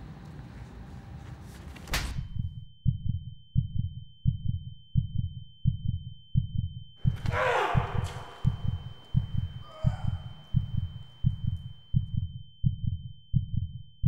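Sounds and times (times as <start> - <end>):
heartbeat double thumps: 2.0 - 14.0.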